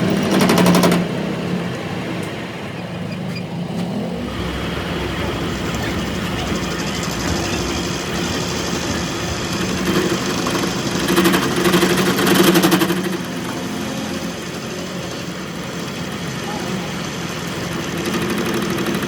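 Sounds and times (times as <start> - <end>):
machine humming: 1.6 - 19.0.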